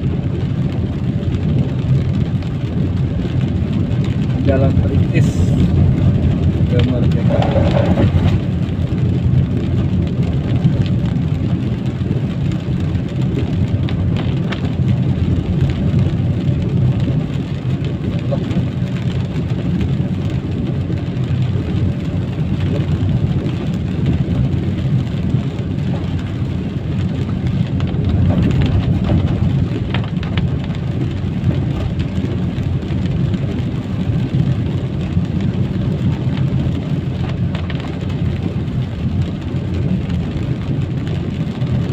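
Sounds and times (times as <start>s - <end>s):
rain: 0.0s - 41.9s
vehicle driving on wet road: 0.0s - 41.9s.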